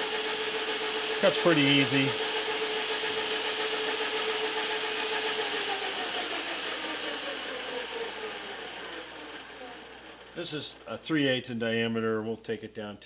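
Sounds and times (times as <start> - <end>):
metal lathe running: 0.0 - 11.3.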